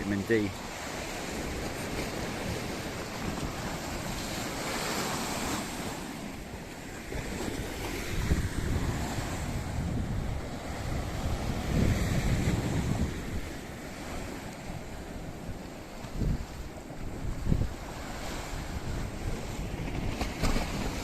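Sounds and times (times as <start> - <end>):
sea waves washing onto beach: 0.0 - 21.0
wind gusting on microphone: 0.0 - 21.0.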